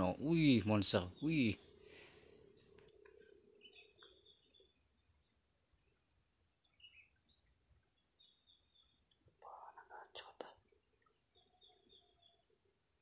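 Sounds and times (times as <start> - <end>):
faint insect chirps: 0.0 - 13.0
insects chirring drone: 0.0 - 13.0.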